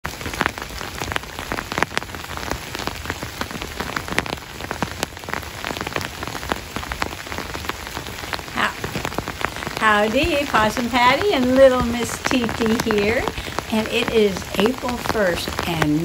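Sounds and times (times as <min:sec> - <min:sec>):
rain falling: 0:00.0 - 0:16.0
raindrops striking a surface: 0:00.0 - 0:16.0.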